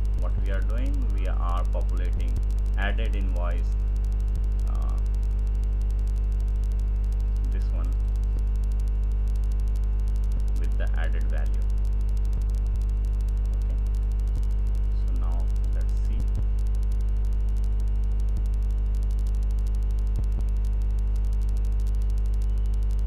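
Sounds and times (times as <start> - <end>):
electrical mains hum: 0.0 - 23.0
faint ticks: 0.0 - 23.0.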